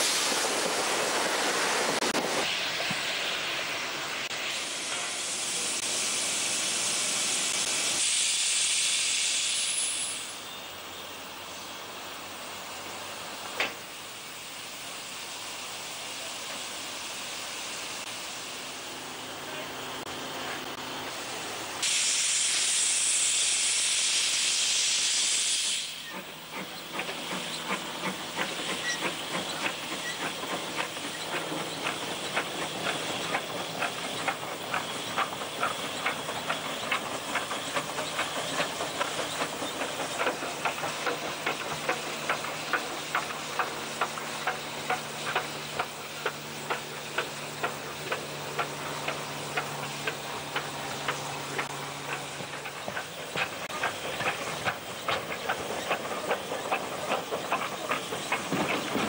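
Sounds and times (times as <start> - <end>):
steam hissing: 0.0 - 59.0
steam locomotive chuffing: 0.0 - 59.0.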